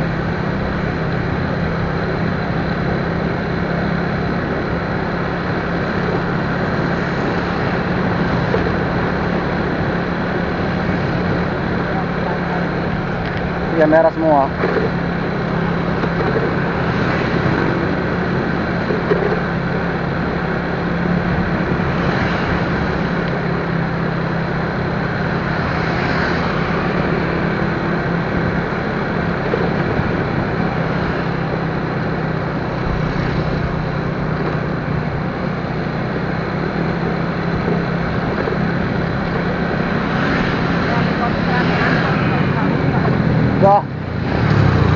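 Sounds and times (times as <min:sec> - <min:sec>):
motorcycle engine humming: 0:00.0 - 0:44.9.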